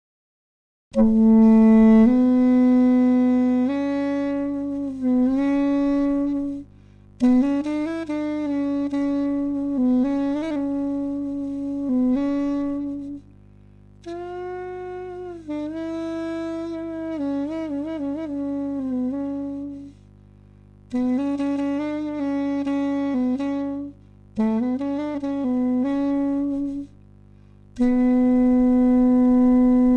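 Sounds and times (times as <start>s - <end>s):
wind instrument solo melody: 0.9s - 13.3s, 14.0s - 20.0s, 20.9s - 27.0s, 27.8s - 29.9s.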